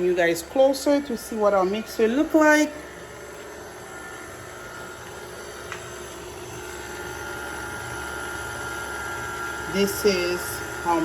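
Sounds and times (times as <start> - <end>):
electric mixer running: 0.0 - 11.0.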